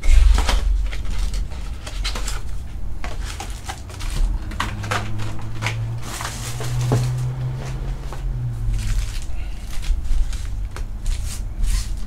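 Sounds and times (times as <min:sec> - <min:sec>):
foil card packs rustling: 0:00.0 - 0:12.0.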